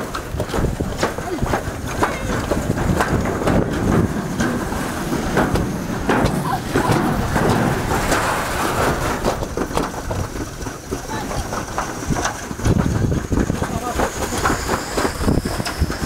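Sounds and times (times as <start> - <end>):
sled rumbling down metal chute: 0.0 - 16.0.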